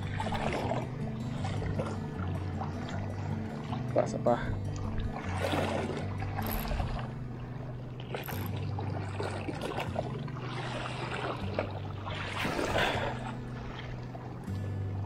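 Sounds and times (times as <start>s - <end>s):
background music with bass: 0.0s - 15.0s
water sloshing: 0.0s - 15.0s.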